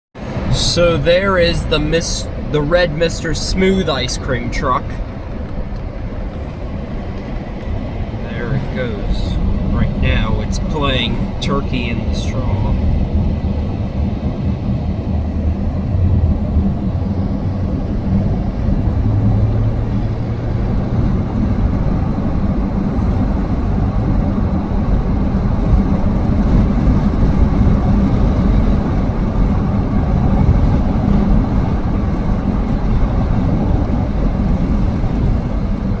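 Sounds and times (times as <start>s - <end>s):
road noise: 0.2s - 36.0s
vehicle engine rumble: 0.2s - 36.0s.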